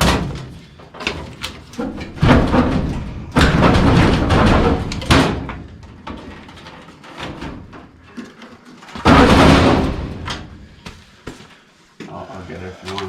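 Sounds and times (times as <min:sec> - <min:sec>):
metallic clatter: 0:00.0 - 0:10.8
sheet metal clunks and scraping: 0:00.0 - 0:10.8.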